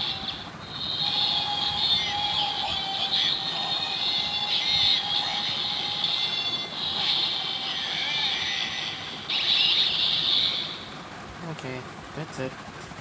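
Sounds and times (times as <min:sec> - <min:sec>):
toy belt electronic sound effects: 0:00.0 - 0:10.8.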